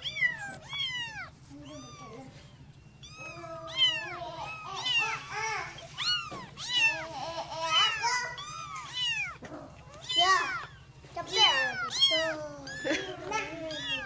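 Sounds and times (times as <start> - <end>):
kittens mewing: 0.0 - 14.0.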